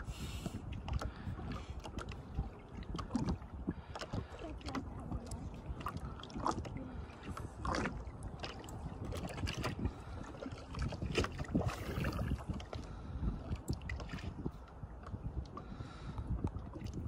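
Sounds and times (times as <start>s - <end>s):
wind rumbling on microphone: 0.0s - 17.0s
water slapping against boat hull: 0.5s - 17.0s.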